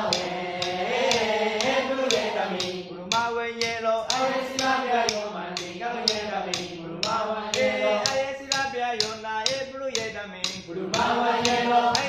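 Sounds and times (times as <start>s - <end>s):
drums struck with sticks: 0.0s - 12.0s
man singing call-and-response song: 0.0s - 12.0s.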